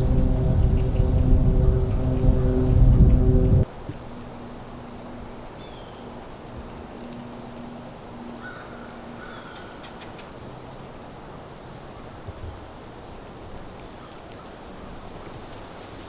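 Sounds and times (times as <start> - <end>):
wind in leaves: 0.0 - 16.0.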